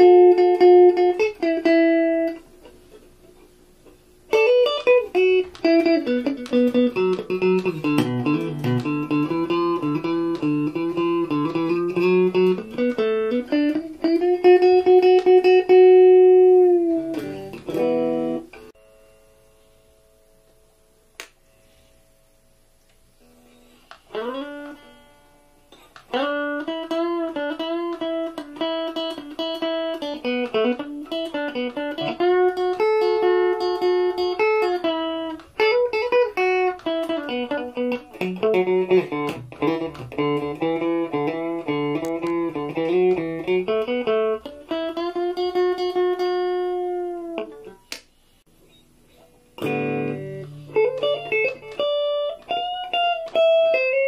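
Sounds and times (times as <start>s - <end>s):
electric guitar melody: 0.0s - 54.0s.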